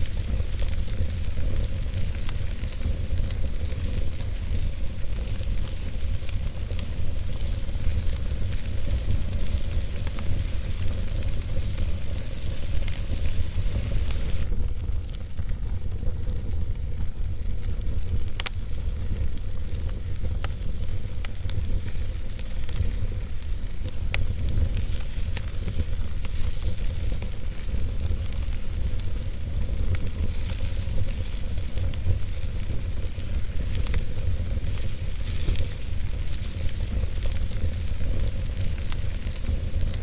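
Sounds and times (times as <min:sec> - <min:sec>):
fire crackles and pops: 0:00.0 - 0:40.0
wood fire hissing and rumbling: 0:00.0 - 0:40.0.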